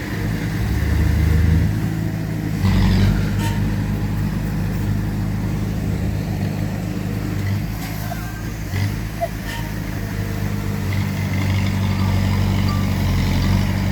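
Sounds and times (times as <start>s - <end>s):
heavy diesel engine running: 0.0s - 13.9s.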